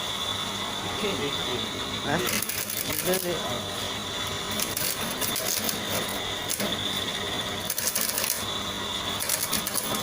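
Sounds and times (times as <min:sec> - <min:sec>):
peeling machine whining and humming: 0:00.0 - 0:10.0.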